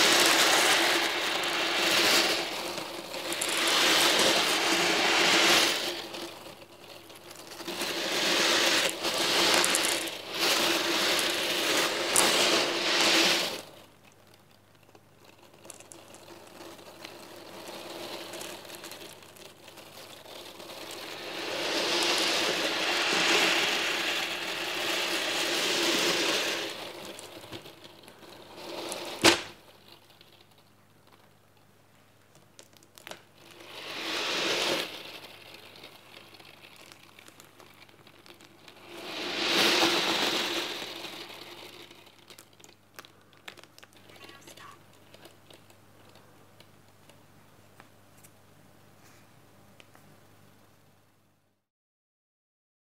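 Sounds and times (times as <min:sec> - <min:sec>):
steel balls rattling in a tray: 0:00.0 - 0:31.6, 0:32.3 - 0:47.2.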